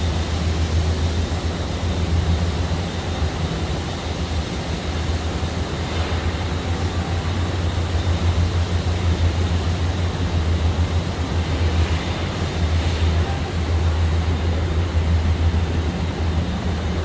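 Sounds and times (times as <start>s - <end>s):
broad rushing noise: 0.0s - 17.0s.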